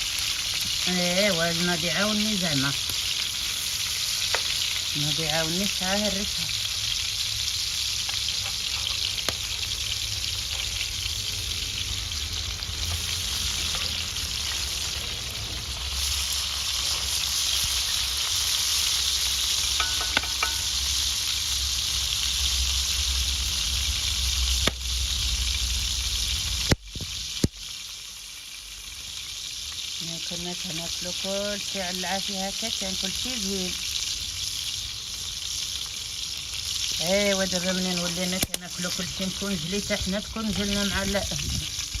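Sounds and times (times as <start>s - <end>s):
fish sizzling over fire: 0.0s - 42.0s.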